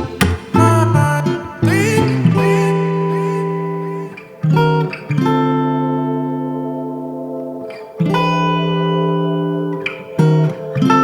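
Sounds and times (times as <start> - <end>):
guitar chords: 0.0 - 11.0.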